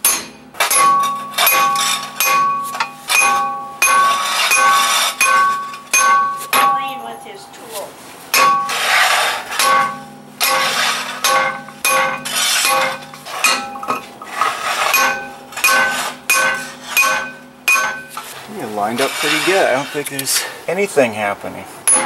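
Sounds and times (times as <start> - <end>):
hammer clanging on metal hub: 0.0 - 7.3, 8.3 - 20.4.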